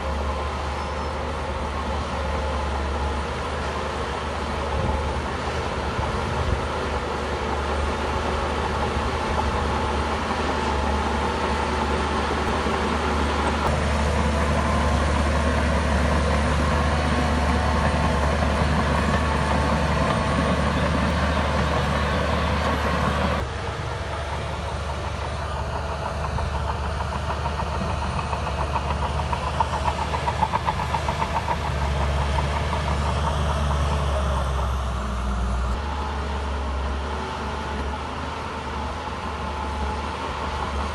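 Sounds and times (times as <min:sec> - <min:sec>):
diesel machinery engine drone: 0:00.0 - 0:40.9.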